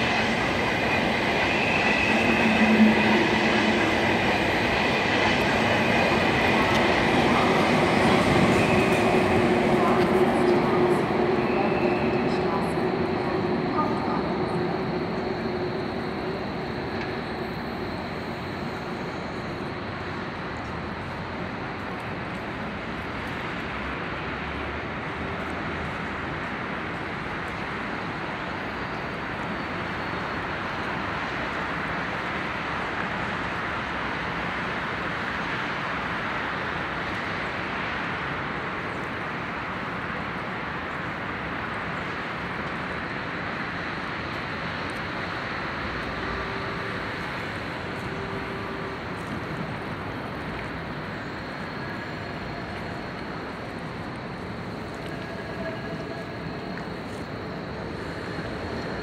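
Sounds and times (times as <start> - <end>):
electric train rushing: 0.0 - 24.4, 25.8 - 59.0.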